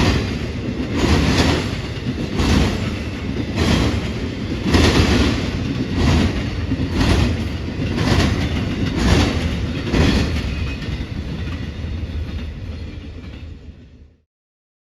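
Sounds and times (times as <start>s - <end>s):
train wheels clacking: 0.0s - 13.6s
train rumble: 0.0s - 14.2s.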